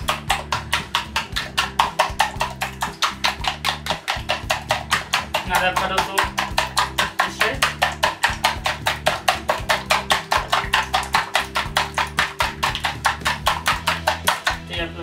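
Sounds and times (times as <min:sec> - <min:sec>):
whisk tapping plastic bowl: 0:00.0 - 0:14.8
background music with bass: 0:00.0 - 0:15.0.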